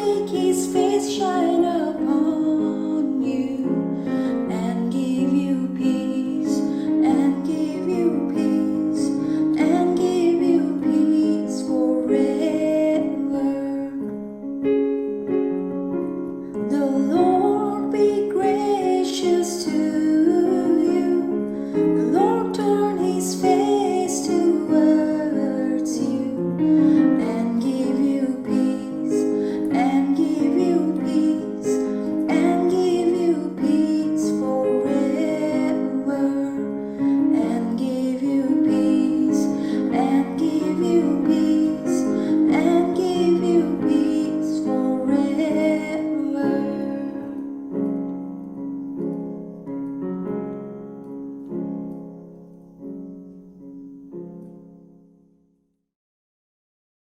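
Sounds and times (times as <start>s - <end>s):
slow keyboard piano music: 0.0s - 55.8s.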